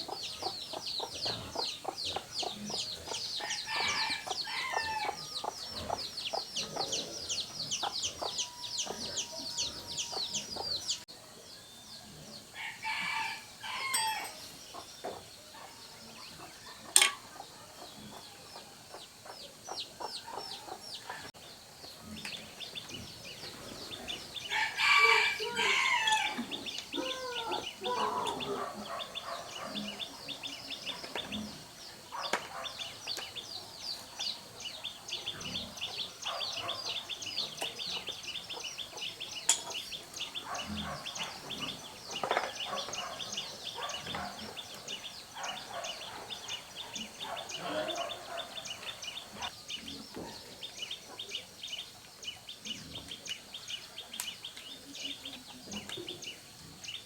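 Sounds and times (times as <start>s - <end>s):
chicken calls: 0.0s - 11.1s, 12.4s - 56.8s
birds chirping: 0.0s - 57.0s.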